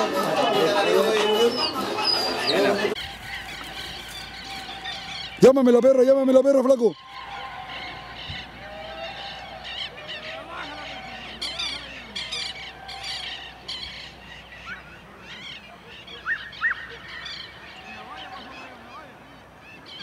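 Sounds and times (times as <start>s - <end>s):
harsh honking bird calls: 0.0s - 20.0s.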